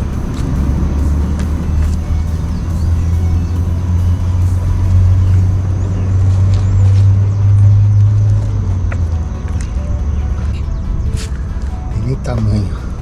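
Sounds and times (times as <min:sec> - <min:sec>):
music with deep bass: 0:00.0 - 0:13.0.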